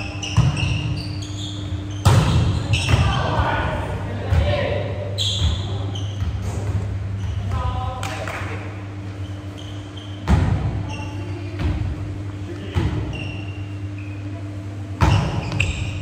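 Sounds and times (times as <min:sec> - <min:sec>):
sneaker squeaks: 0:00.0 - 0:03.4, 0:05.0 - 0:16.0
ventilation hum: 0:00.0 - 0:16.0.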